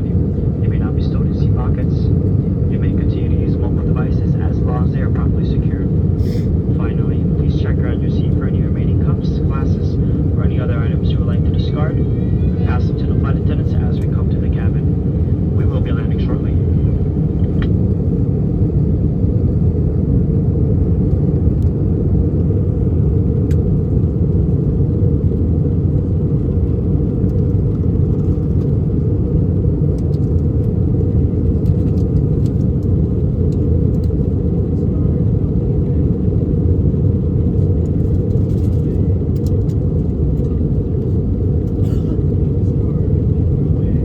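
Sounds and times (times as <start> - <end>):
airliner cabin rumble: 0.0 - 44.0.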